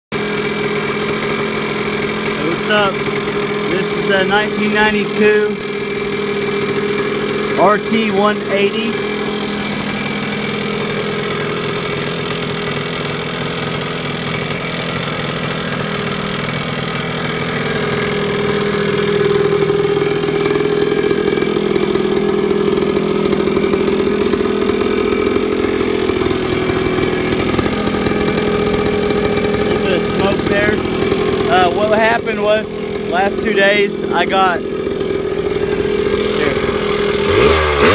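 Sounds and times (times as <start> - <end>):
two-stroke engine idling: 0.1 - 37.9.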